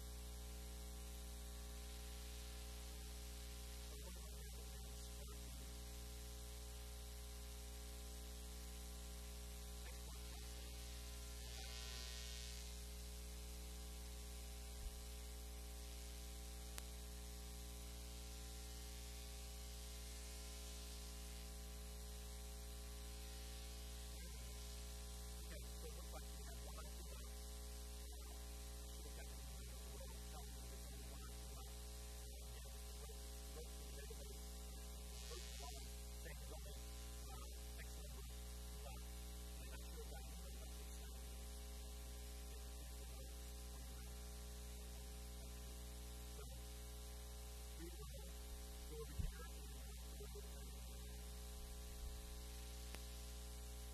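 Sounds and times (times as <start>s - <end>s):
electrical mains hum: 0.0s - 53.9s.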